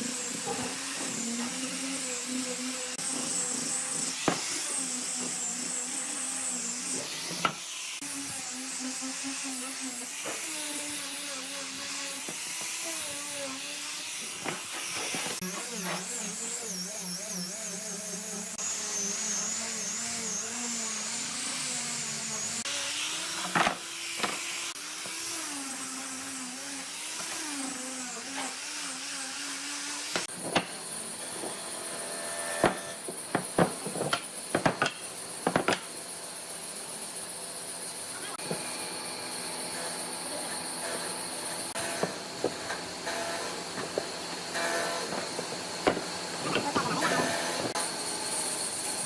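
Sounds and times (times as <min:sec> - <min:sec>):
power tool motor whining: 0:00.0 - 0:36.1, 0:37.9 - 0:49.0.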